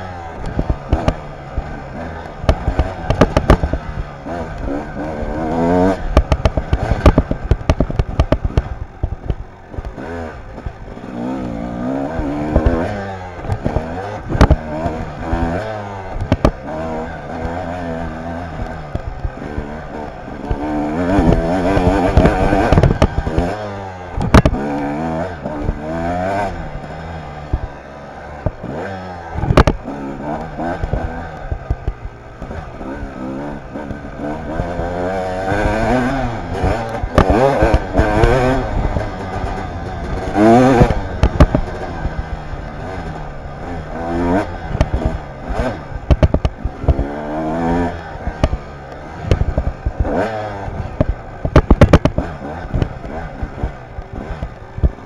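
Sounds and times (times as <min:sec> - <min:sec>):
dirt bike engine revving: 0:00.0 - 0:55.0
knocks and rattles of bike: 0:00.0 - 0:55.0.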